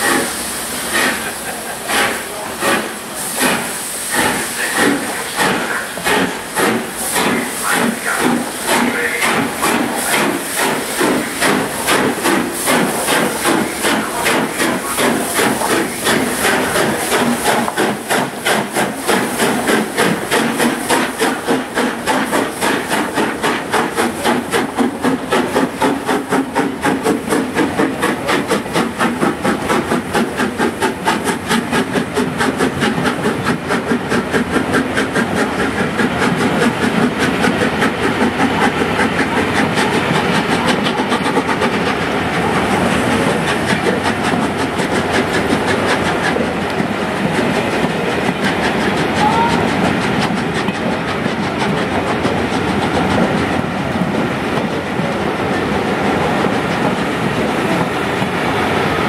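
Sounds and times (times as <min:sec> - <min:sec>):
train wheels clattering over rail joints: 0:00.0 - 0:58.6
steam locomotive exhaust beating: 0:00.0 - 0:59.0.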